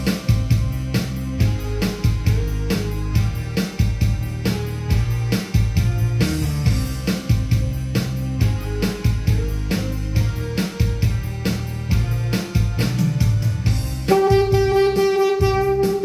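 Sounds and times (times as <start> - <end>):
pop backing track with drums: 0.0 - 16.0.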